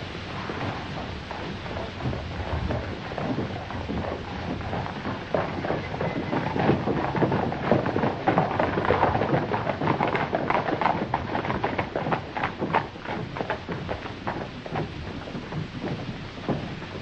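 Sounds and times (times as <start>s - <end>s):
horse hooves clattering on dirt: 0.0s - 17.0s.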